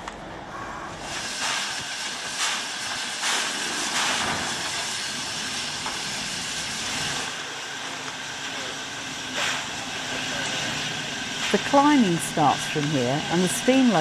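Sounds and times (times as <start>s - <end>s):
steam locomotive hissing steam: 0.4s - 14.0s.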